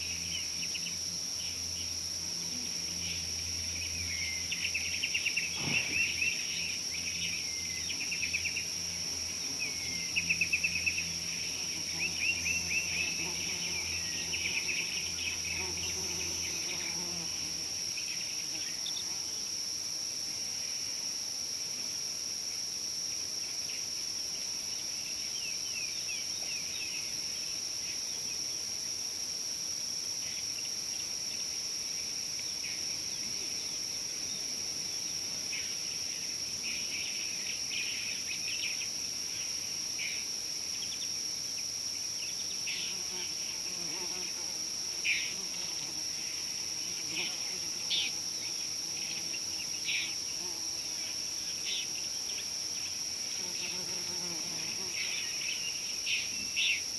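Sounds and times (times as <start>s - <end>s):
high-pitched insect drone: 0.0s - 19.9s, 30.1s - 56.9s.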